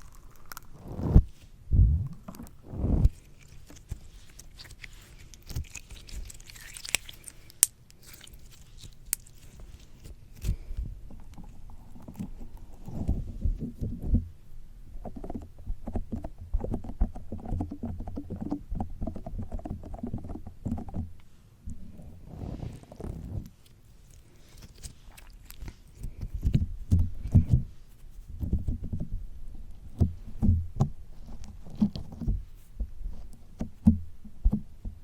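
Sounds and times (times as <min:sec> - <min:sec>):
muffled slime squelching: 0:00.0 - 0:35.0.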